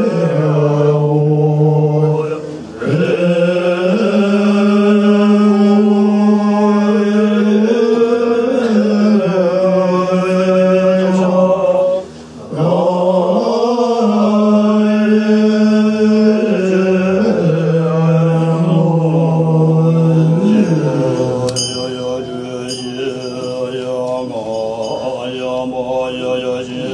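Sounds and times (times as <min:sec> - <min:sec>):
monks chanting in unison: 0:00.0 - 0:26.9.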